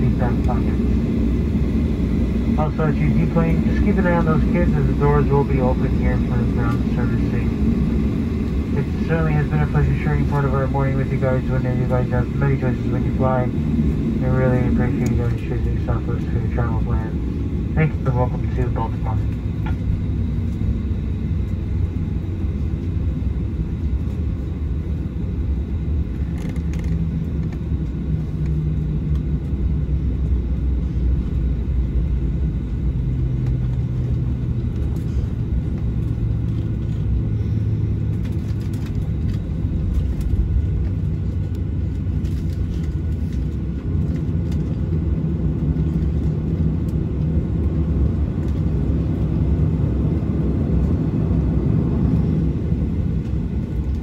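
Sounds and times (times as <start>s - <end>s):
faint engine hum: 0.0s - 54.0s
jet engines rumbling at idle: 0.0s - 54.0s.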